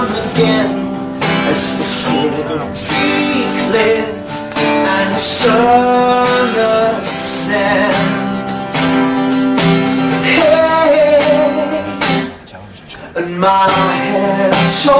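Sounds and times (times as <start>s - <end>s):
song with guitar and singing: 0.0s - 14.9s.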